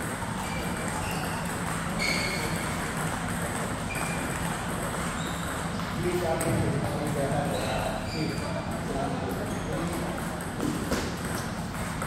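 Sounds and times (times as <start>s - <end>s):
ball bouncing on table: 0.0s - 12.0s
ping pong ball hit by paddles: 0.0s - 12.0s.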